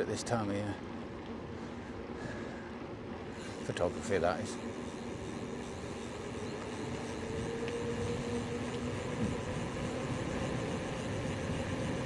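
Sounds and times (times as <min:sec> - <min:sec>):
bike tyres humming on road: 0:00.9 - 0:12.0.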